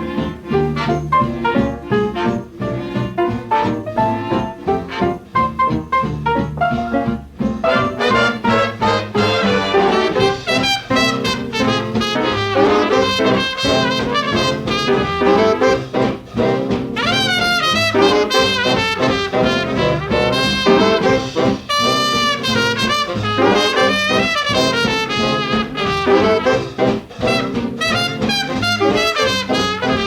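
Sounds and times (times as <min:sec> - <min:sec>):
swing big band playing: 0:00.0 - 0:30.0
trumpets and trombones: 0:00.0 - 0:30.0.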